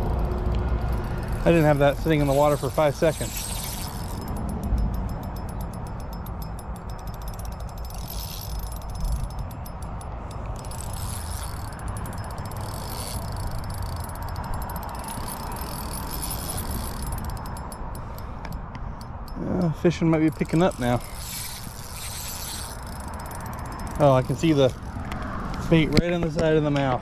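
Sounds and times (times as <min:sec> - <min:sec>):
fishing reel ticking: 0:00.0 - 0:26.4.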